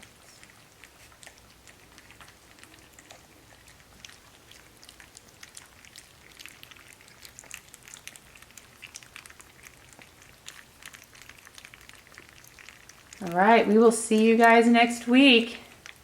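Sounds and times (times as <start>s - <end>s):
puppies licking and smacking: 0.0s - 16.0s.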